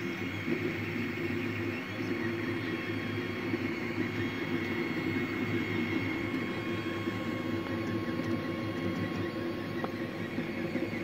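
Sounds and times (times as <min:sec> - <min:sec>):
cooling fans whining: 0:00.0 - 0:11.0
stepper motors whirring: 0:00.0 - 0:11.0.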